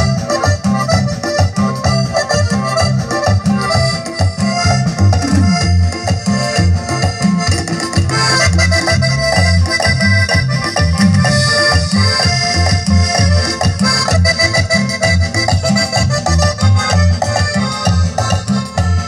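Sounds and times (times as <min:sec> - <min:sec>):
accordion melody: 0:00.0 - 0:19.0
drum kit: 0:00.0 - 0:19.0
pulsing bass line: 0:00.0 - 0:19.0.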